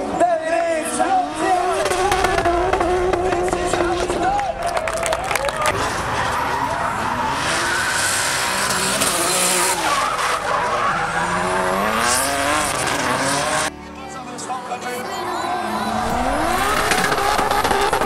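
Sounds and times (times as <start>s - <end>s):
car engines revving hard: 0.0s - 13.7s, 15.2s - 18.0s.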